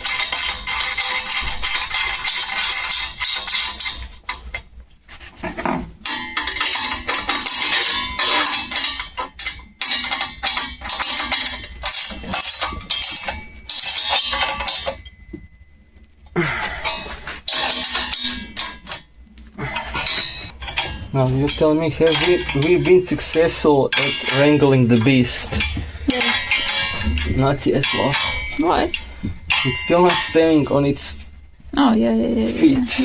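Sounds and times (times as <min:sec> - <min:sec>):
metallic clanking of tools: 0:00.0 - 0:04.7, 0:05.4 - 0:31.7, 0:32.5 - 0:33.0.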